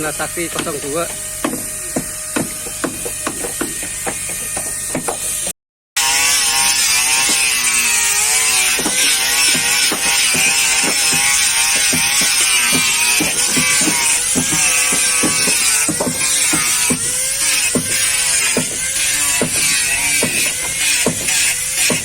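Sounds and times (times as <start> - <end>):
hammer on wooden planks: 0.5 - 5.5, 8.5 - 22.0.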